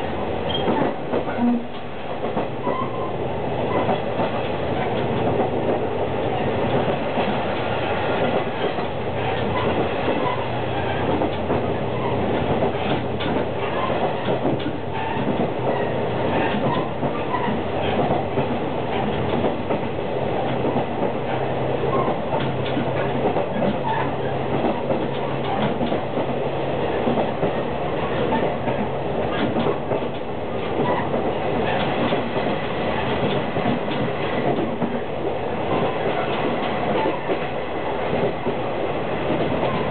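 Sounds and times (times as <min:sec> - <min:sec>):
rail-joint clicks: 0:00.0 - 0:39.9
wheels rumbling on rail: 0:00.0 - 0:39.9.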